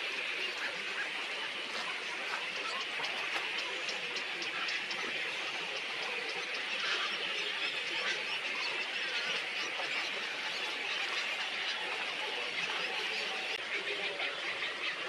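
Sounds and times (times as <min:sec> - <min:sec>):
flock of small birds chirping: 0:00.0 - 0:15.0.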